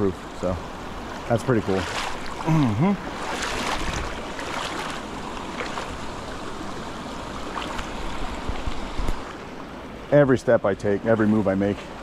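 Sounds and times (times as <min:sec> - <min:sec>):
river water rushing around legs: 0:00.0 - 0:12.0.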